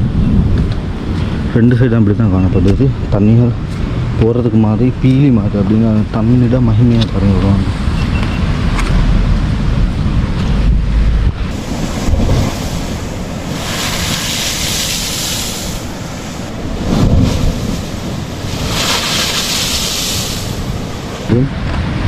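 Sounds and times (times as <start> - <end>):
wind buffeting microphone: 0.0 - 22.0
rushing washes of water: 3.1 - 22.0
sea waves surging into rocks: 3.6 - 22.0.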